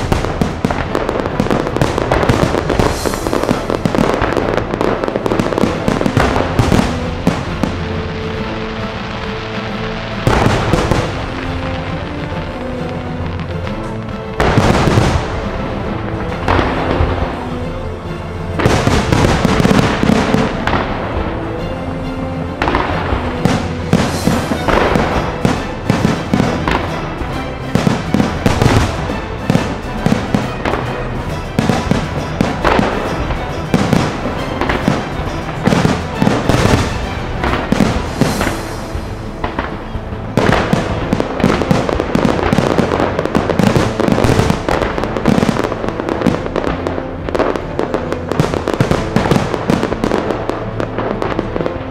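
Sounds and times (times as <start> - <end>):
fireworks bangs and crackling: 0.0 - 51.9
show music: 0.0 - 51.9.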